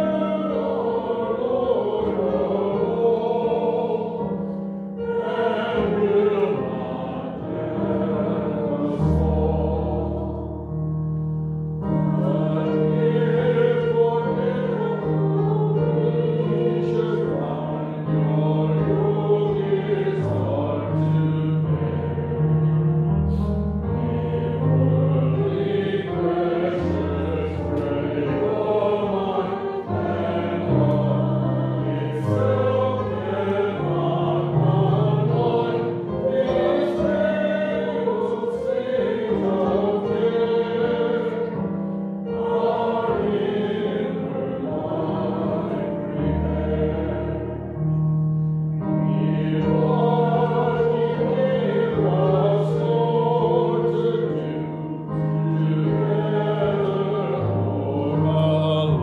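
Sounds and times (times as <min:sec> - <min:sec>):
keyboard accompaniment: 0:00.0 - 0:59.0
voices singing a hymn: 0:00.0 - 0:59.0.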